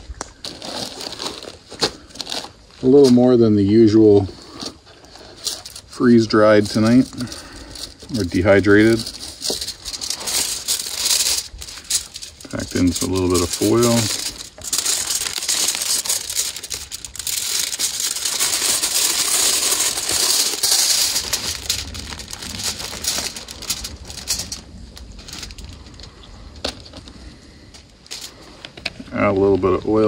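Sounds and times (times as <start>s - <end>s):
foil crinkling: 0.0s - 30.0s
plastic bag rustling: 0.0s - 30.0s.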